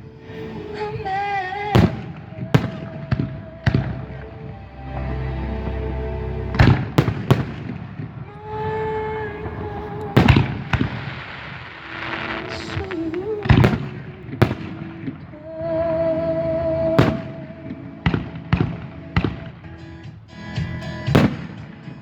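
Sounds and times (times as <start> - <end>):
fireworks bangs: 0.9 - 5.8, 6.5 - 16.0, 16.8 - 22.0.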